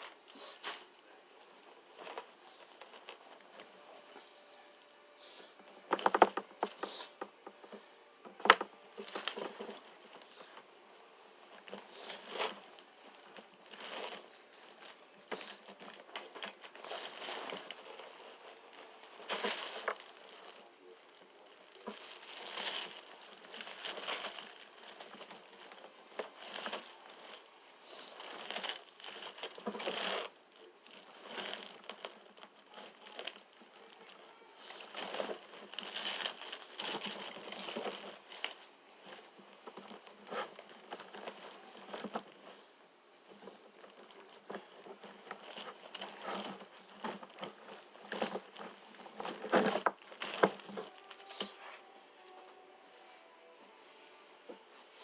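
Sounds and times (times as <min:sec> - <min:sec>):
plastic figures clicking and rustling: 0:05.8 - 0:10.6, 0:11.5 - 0:42.6, 0:43.2 - 0:51.4.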